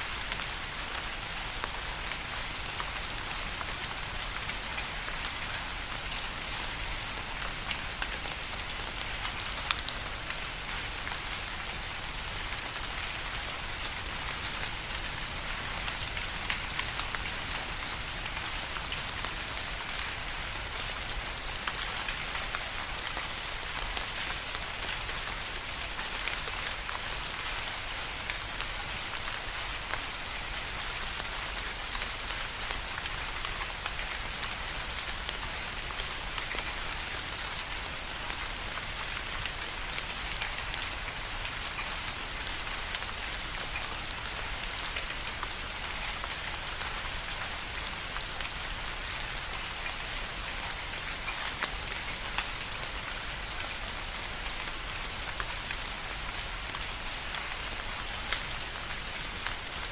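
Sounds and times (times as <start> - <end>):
rain drops ticking on a surface: 0.0 - 59.9.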